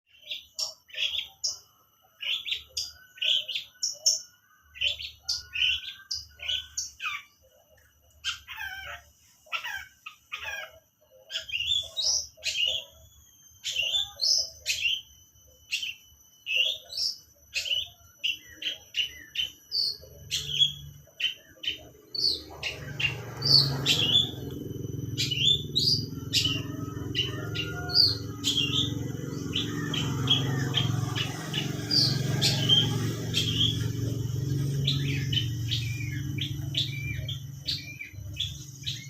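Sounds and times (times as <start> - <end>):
bird chirping sharply: 0.1 - 39.0
bird warbling: 0.1 - 39.0.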